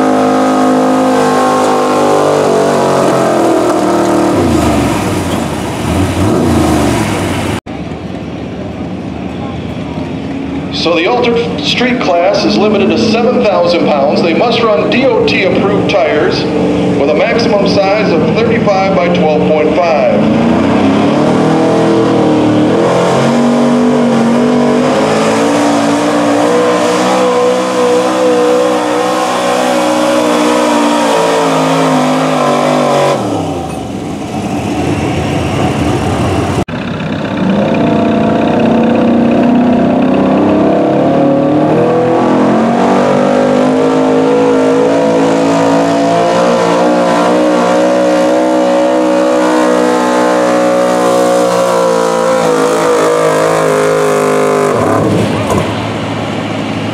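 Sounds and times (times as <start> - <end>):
truck engines at full throttle: 0.0 - 56.9.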